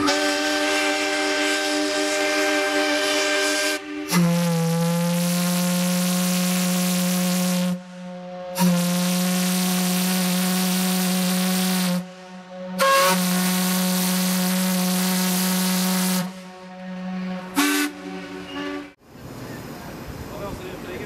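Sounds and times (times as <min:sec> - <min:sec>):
ship steam whistle blasts: 0:00.0 - 0:19.0.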